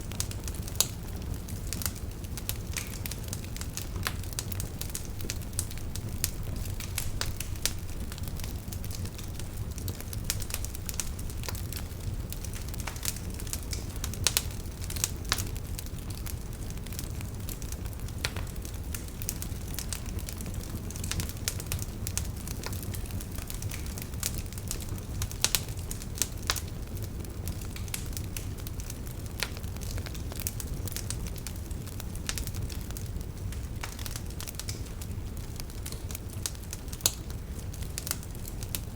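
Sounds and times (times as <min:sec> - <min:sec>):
fire rumble: 0:00.0 - 0:38.9
wood fire popping and snapping: 0:00.0 - 0:38.9.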